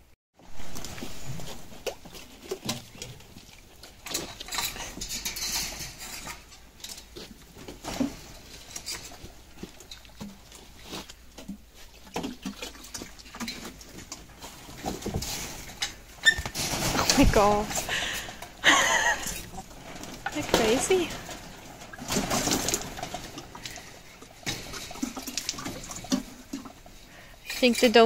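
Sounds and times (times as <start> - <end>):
monkeys scrambling with knocks and taps: 0.6 - 28.0.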